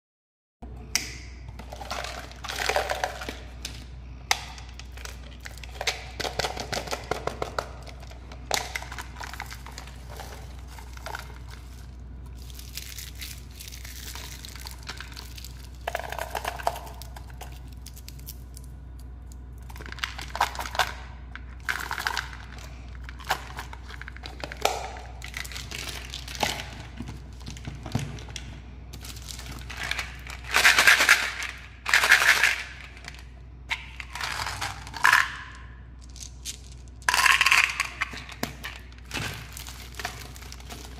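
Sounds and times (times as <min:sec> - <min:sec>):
steady low hum: 0:00.6 - 0:40.9
plastic wrappers crinkling: 0:04.6 - 0:40.9.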